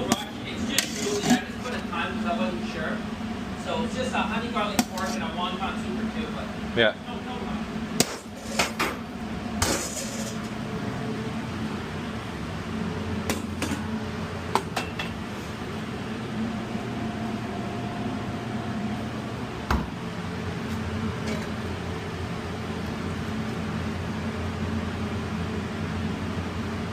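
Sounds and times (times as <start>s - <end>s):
low machine hum: 0.0s - 26.9s.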